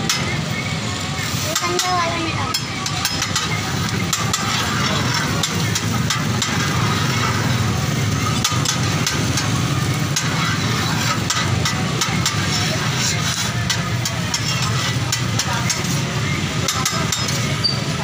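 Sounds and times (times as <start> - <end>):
street noise hum: 0.0 - 18.0
metal spatula scraping griddle: 1.2 - 18.0.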